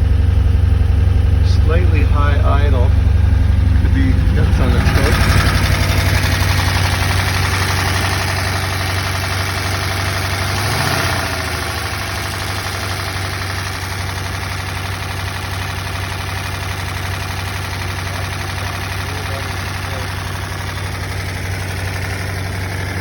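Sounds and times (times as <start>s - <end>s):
engine idling with valvetrain clatter: 0.0s - 23.0s.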